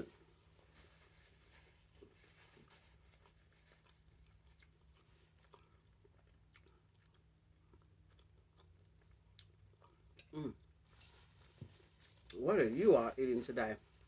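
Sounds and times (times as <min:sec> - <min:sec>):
faint chewing of food: 0:00.2 - 0:12.4.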